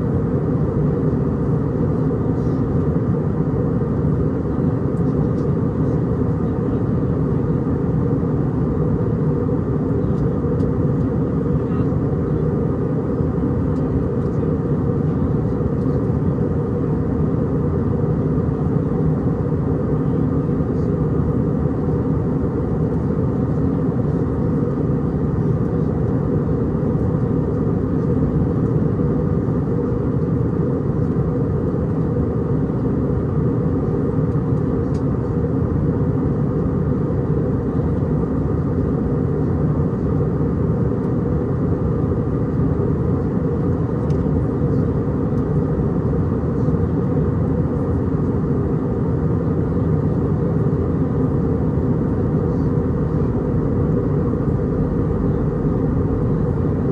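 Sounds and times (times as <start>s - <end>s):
airplane cabin roar: 0.0s - 56.9s.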